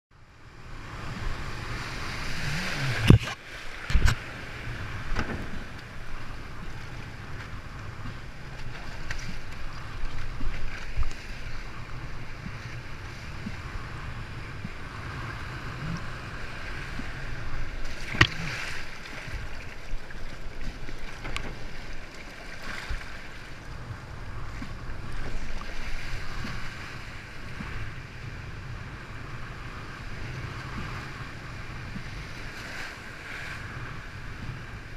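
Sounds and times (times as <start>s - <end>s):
breaking waves and whitewater: 0.2s - 34.9s
wind buffeting microphone: 0.5s - 34.9s.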